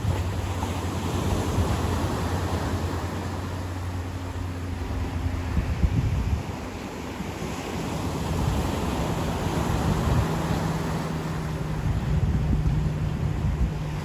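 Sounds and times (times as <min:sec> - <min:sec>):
ocean surf washing on beach: 0:00.0 - 0:14.0.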